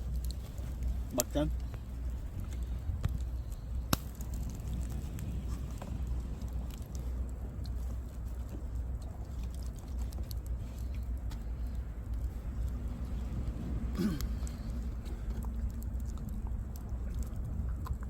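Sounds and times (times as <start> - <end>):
campfire crackling and popping: 0.0 - 18.0
low rumble: 0.0 - 18.0.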